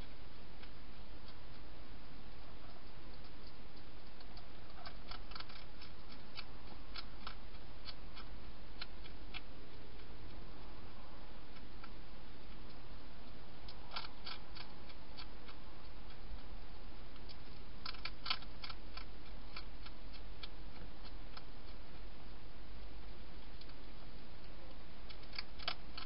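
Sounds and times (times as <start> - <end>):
low hum and hiss: 0.0 - 26.0
hedgehog chewing and crunching: 0.2 - 26.0.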